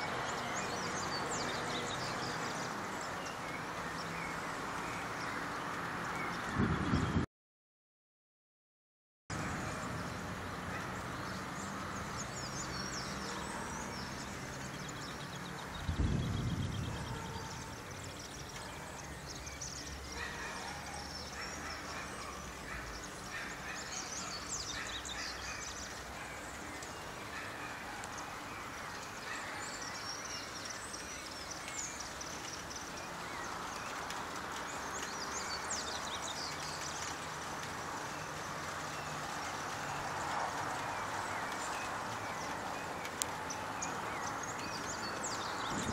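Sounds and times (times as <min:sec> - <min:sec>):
birds chirping: 0:00.0 - 0:07.2, 0:09.3 - 0:45.9
outdoor background noise: 0:00.0 - 0:07.3, 0:09.3 - 0:45.9.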